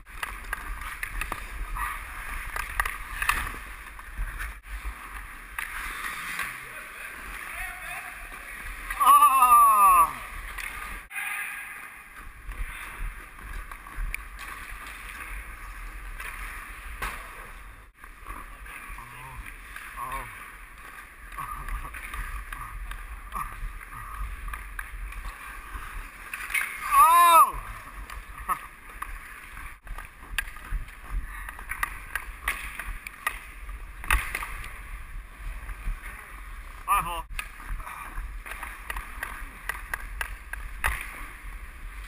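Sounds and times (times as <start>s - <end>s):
skates scraping on ice: 0.0s - 42.0s.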